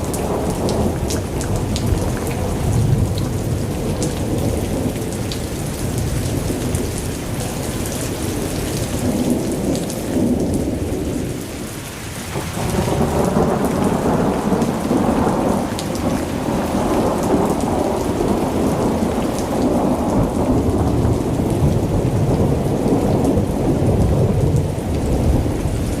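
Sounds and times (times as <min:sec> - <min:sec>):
low rolling thunder: 0:00.0 - 0:11.7, 0:12.3 - 0:26.0
heavy rain falling: 0:00.0 - 0:26.0.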